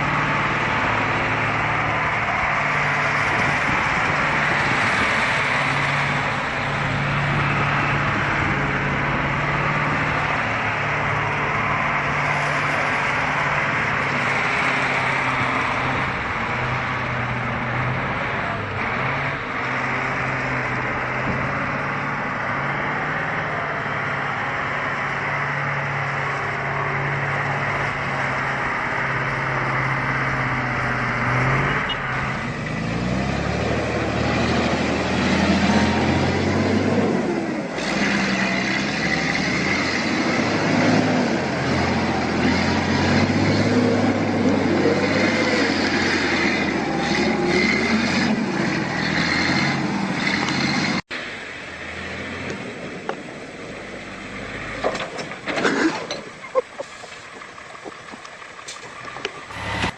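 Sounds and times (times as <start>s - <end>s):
engine revving: 0.0s - 51.1s, 58.7s - 59.9s
truck engine running: 0.0s - 59.9s.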